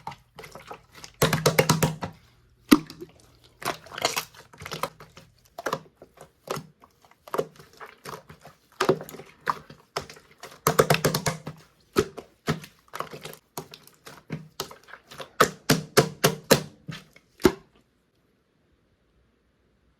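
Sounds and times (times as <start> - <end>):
slime squished by hand: 0.0 - 17.8.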